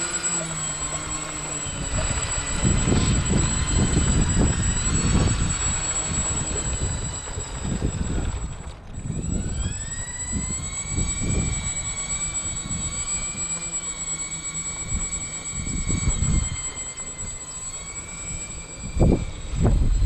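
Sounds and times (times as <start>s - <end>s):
electric motors whining: 0.0s - 20.0s
wind buffeting microphone: 0.1s - 17.5s, 18.2s - 20.0s.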